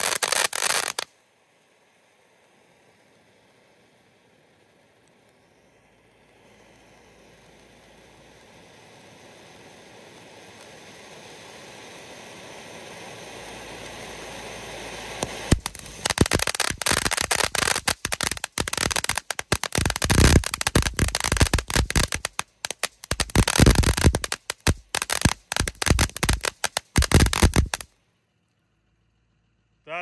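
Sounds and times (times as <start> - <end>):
firework crack: 0.0 - 28.0
firework crackling pops: 0.0 - 28.0
firework fountain hissing: 0.0 - 28.0.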